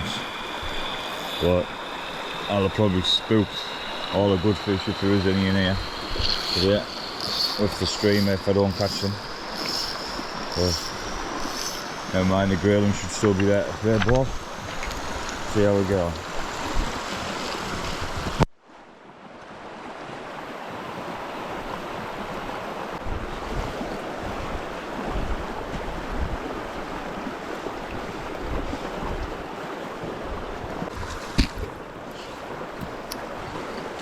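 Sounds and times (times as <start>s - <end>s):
wind on microphone: 0.0s - 18.5s, 21.5s - 34.0s
fast-flowing river water: 0.0s - 34.0s.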